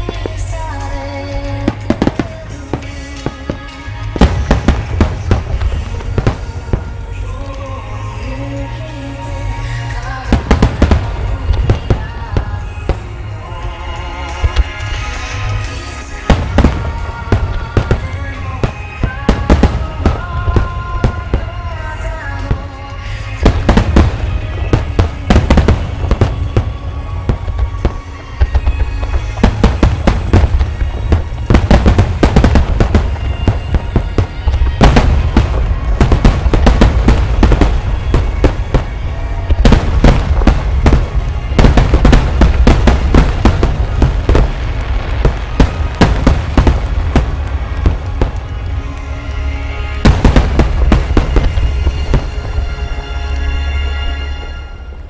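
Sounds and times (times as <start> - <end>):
deep rumble: 0.0 - 53.6
fireworks bursting: 0.0 - 54.6
music playing: 0.0 - 55.0.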